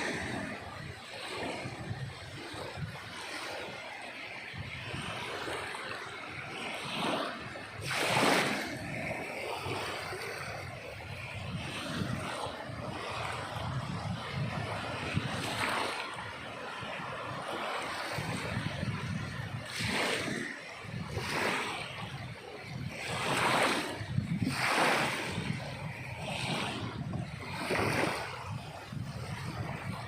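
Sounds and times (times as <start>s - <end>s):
sea waves washing on shore: 0.0s - 30.0s
wave breaking: 0.0s - 30.0s.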